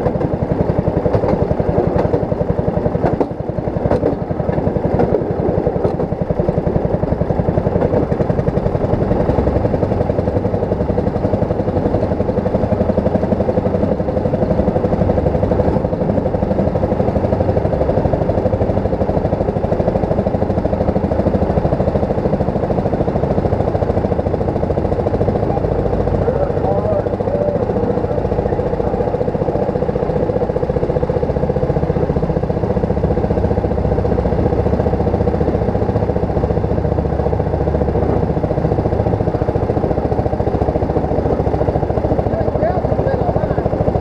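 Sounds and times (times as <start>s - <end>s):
small engine running: 0.0s - 44.0s
wheels rumbling on rails: 0.0s - 44.0s.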